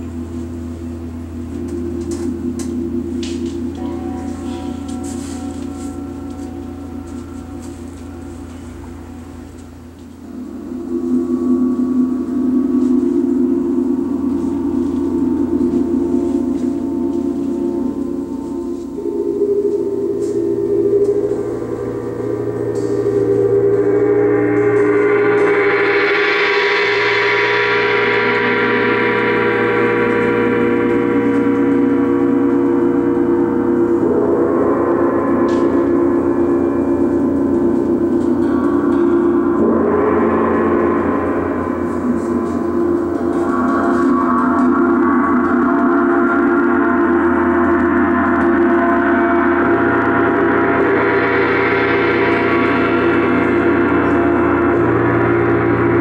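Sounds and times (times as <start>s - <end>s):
gong ringing: 0.0s - 56.0s.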